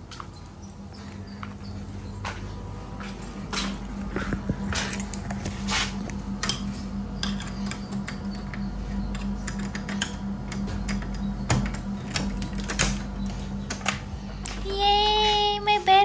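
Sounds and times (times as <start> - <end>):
music with pulsing low note: 0.0 - 16.0.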